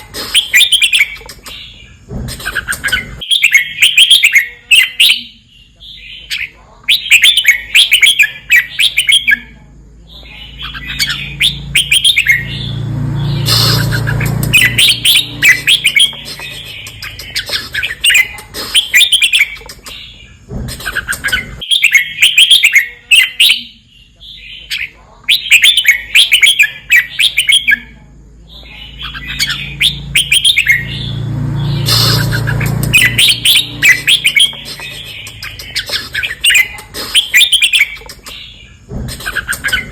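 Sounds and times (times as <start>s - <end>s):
bird chirping song: 0.0s - 39.9s
low background hum: 0.0s - 39.9s.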